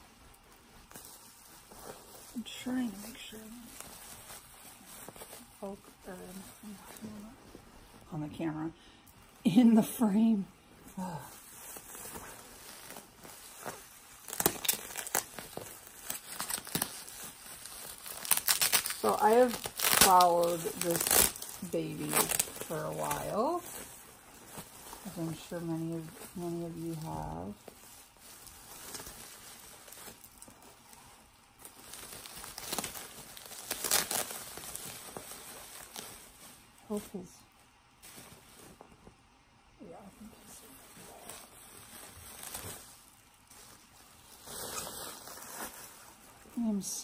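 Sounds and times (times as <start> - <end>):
packaging rustling and crinkling: 0.0 - 8.4, 9.2 - 47.0.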